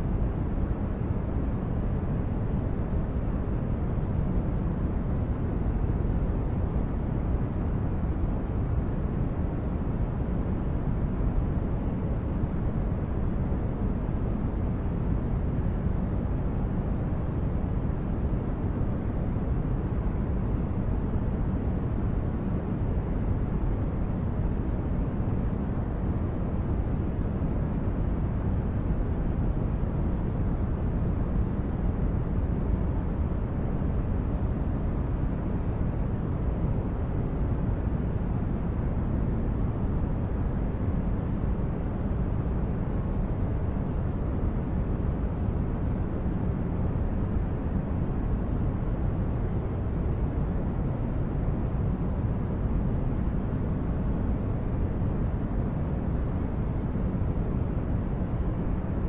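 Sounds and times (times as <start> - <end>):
deep brown noise rumble: 0.0 - 59.0.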